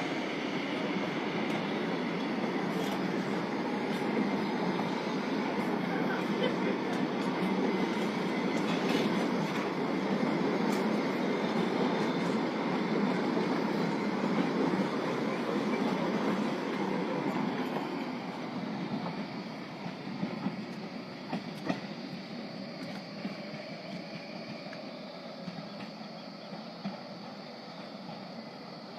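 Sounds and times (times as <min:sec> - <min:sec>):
toy train rumbling on track: 0:00.0 - 0:28.9.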